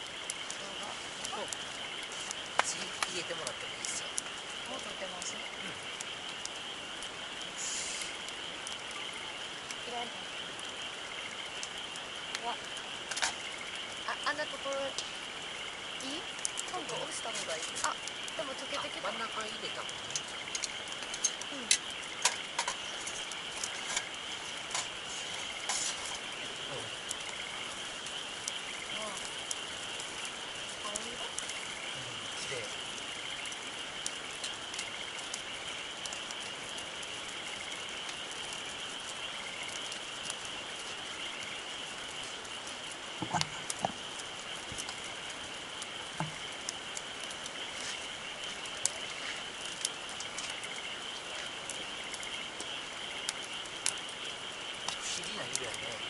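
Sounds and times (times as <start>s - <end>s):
campfire crackling and popping: 0.0s - 56.0s
steady hiss: 0.0s - 56.0s.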